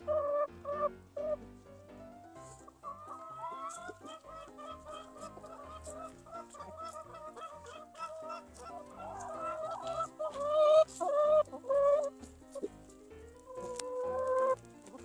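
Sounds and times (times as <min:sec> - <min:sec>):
hen calling: 0:00.0 - 0:01.4, 0:02.7 - 0:15.0
chickens clucking: 0:00.0 - 0:01.6, 0:02.4 - 0:15.0.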